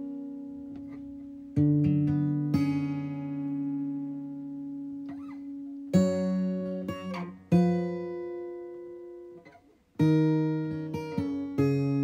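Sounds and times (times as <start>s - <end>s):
acoustic guitar background music: 0.0s - 12.0s.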